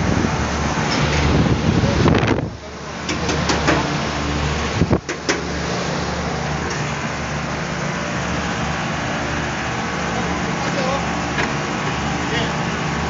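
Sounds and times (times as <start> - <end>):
air conditioning units humming: 0.0 - 13.0.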